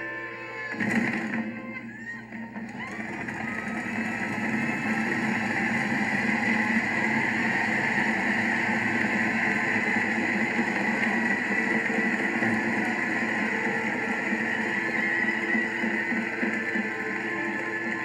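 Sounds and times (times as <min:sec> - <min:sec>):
large outdoor crowd noise: 0:00.0 - 0:18.0.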